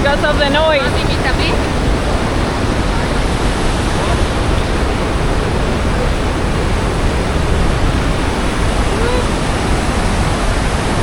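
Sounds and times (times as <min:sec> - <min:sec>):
roar of waterfall: 0:00.0 - 0:11.0.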